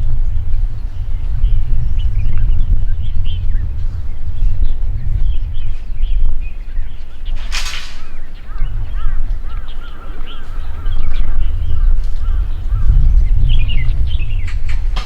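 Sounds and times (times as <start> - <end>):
birds chirping and calling: 0.0 - 15.0
steady low rumble: 0.0 - 15.0.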